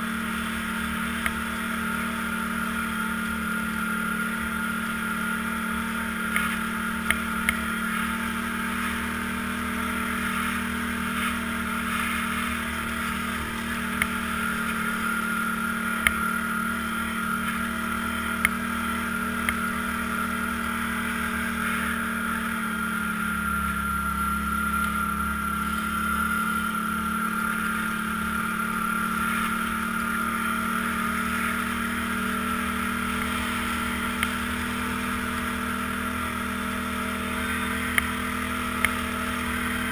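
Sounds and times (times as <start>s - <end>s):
quad bike engine droning: 0.0s - 39.9s.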